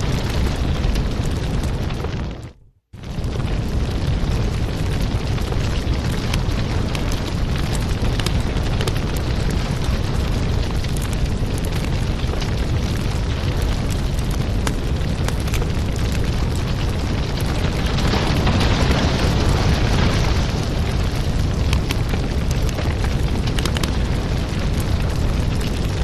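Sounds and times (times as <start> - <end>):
fire crackling and popping: 0.0 - 26.0
wood fire rumbling: 0.0 - 26.0.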